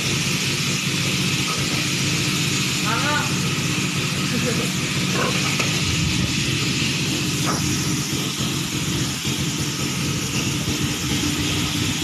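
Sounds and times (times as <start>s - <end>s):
small pump motor running: 0.0s - 12.0s
water spraying: 0.0s - 12.0s.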